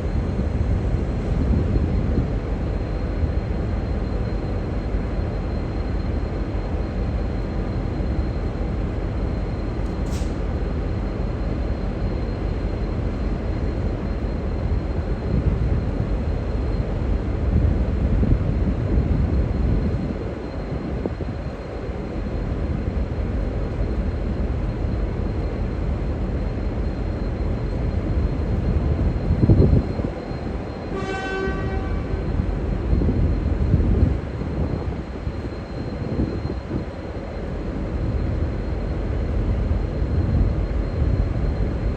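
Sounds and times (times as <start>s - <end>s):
diesel locomotive rumbling: 0.0s - 41.9s.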